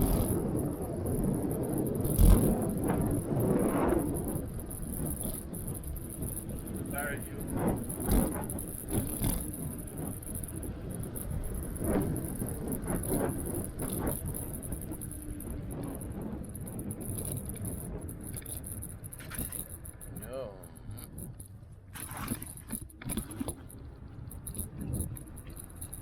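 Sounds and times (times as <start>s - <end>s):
scooter rattling: 0.0s - 26.0s
wind and road noise: 0.0s - 26.0s.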